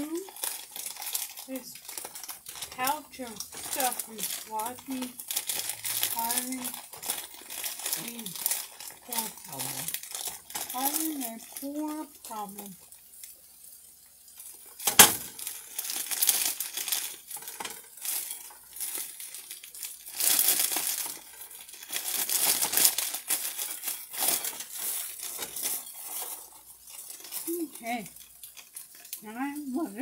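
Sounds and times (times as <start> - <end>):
plastic bag crinkling and rustling: 0.0 - 30.0.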